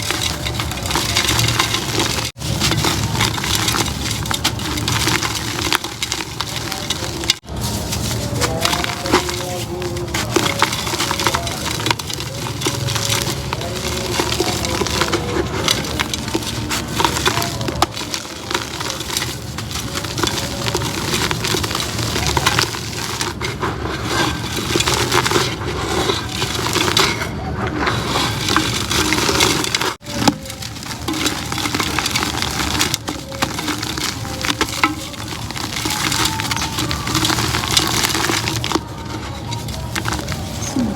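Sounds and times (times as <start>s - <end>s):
concrete pot crumbling: 0.0s - 40.9s.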